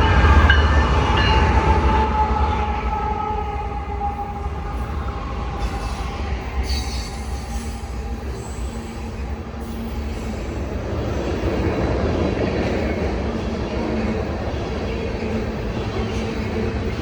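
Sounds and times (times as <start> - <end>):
train rumbling on tracks: 0.0 - 17.0.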